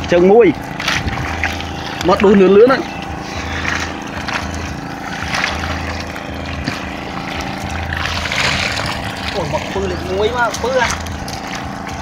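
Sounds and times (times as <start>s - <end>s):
boat motor running: 0.0s - 12.0s
fish thrashing and splashing: 0.0s - 12.0s.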